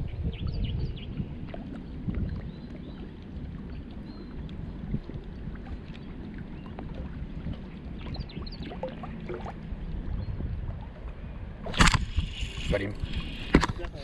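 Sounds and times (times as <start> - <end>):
wind buffeting microphone: 0.0 - 14.0
water lapping: 1.4 - 14.0.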